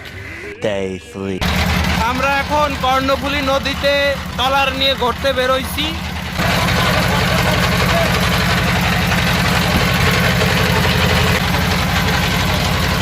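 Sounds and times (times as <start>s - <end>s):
boat engine running: 1.4s - 13.0s.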